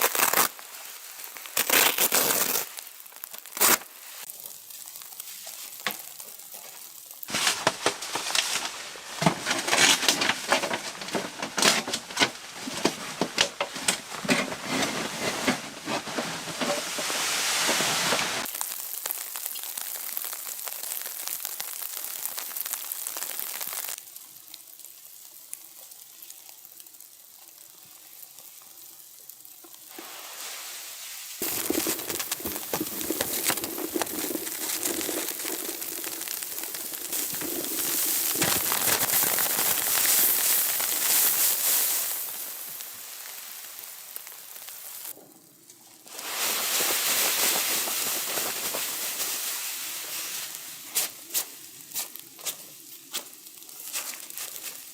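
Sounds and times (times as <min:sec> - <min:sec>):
food sizzling over campfire: 0:00.0 - 0:14.3, 0:16.1 - 0:54.9.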